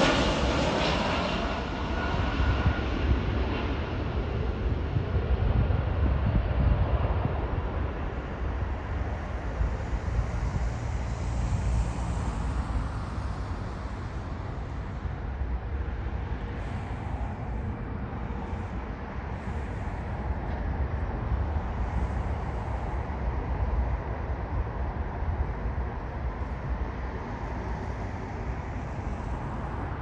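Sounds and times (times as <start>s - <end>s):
jet airliner engine noise: 0.0s - 30.0s
wind buffeting microphone: 0.0s - 30.0s.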